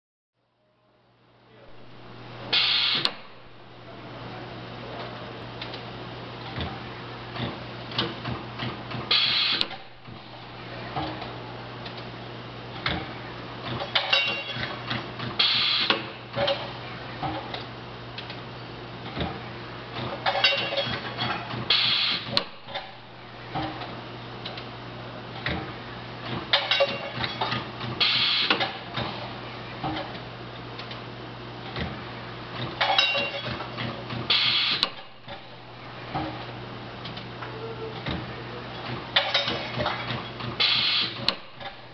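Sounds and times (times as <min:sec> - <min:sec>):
steady electrical hum: 0:00.4 - 0:41.9.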